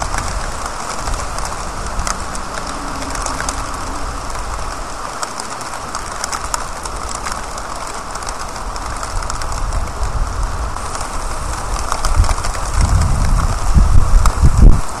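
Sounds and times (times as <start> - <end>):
car tyres hissing on wet road: 0.0 - 15.0
rain falling on street: 0.0 - 15.0.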